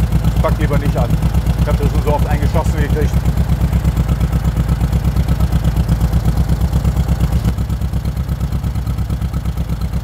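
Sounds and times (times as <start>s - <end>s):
car engine idling and misfiring: 0.0s - 10.0s.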